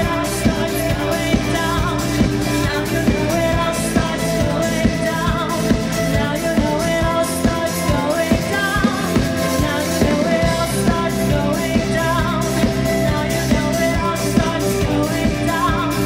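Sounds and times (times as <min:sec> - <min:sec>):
rock band playing: 0:00.0 - 0:16.0
woman singing: 0:00.0 - 0:16.0.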